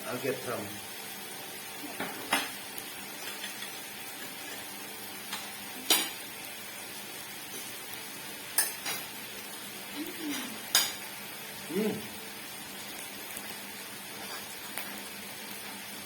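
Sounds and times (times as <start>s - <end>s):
meat sizzling on a grill: 0.0s - 16.0s.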